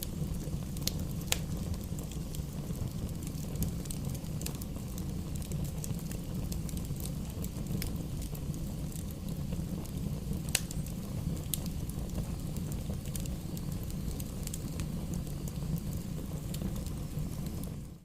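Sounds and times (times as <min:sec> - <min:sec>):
flames rushing: 0:00.0 - 0:18.0
logs crackling and popping: 0:00.0 - 0:18.0.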